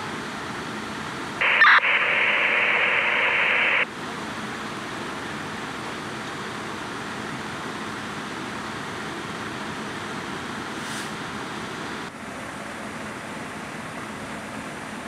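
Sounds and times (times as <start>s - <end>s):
fire engine running: 0.0s - 15.0s
house fire roaring: 0.0s - 15.0s.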